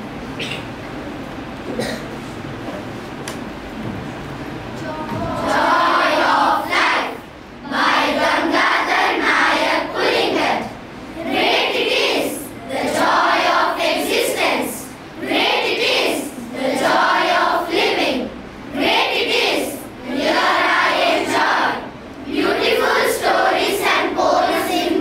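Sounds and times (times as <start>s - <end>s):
children reciting in unison: 4.8s - 25.0s.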